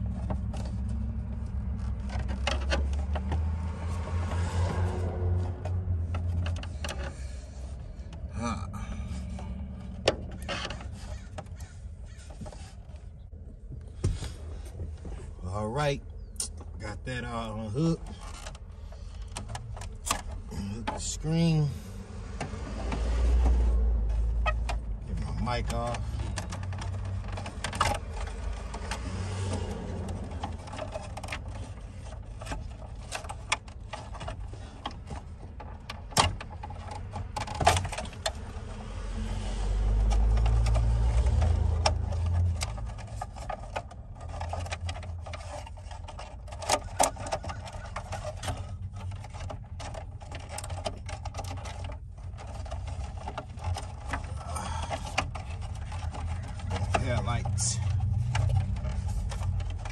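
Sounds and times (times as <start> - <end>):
hands handling plastic parts: 0.0 - 15.4, 16.1 - 59.9.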